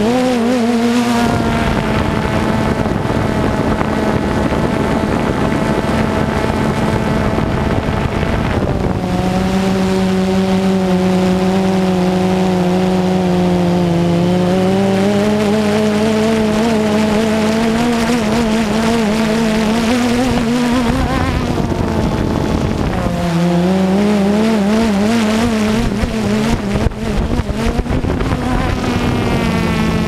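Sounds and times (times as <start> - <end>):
drone propellers whining: 0.0 - 30.0
wind noise: 0.0 - 30.0.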